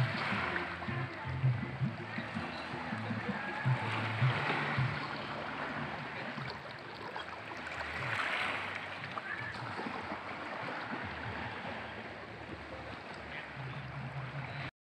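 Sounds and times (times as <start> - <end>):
waves lapping against rocks: 0.0 - 14.7.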